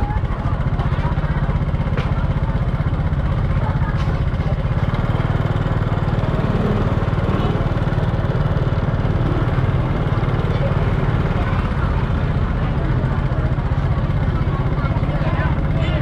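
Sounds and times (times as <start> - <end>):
small motorbike engine running: 0.0 - 16.0.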